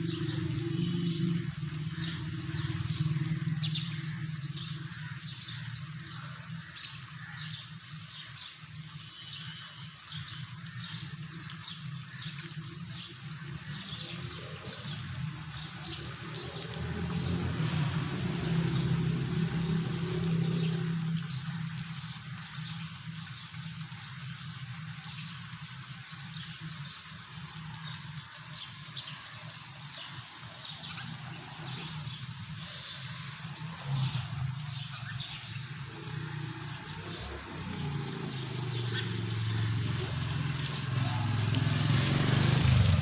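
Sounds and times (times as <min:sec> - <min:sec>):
small birds chirping: 0:00.0 - 0:43.0
steady rain hiss: 0:00.0 - 0:43.0.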